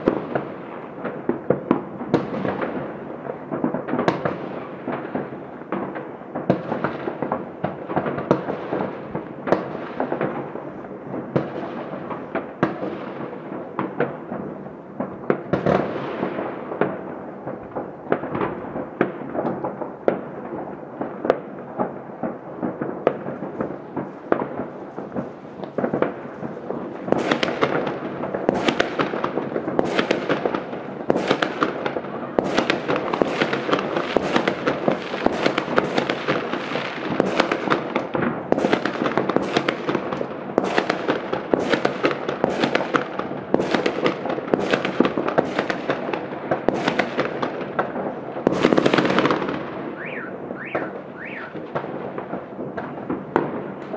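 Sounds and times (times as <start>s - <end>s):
distant fireworks bangs and pops: 0.0s - 53.9s.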